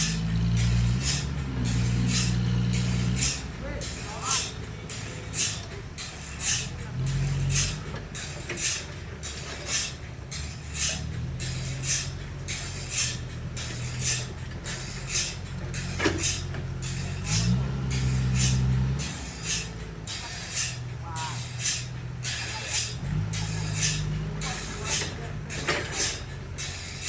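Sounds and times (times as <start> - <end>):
rhythmic high rasp: 0.0 - 27.0
sawmill engine running: 0.0 - 27.0.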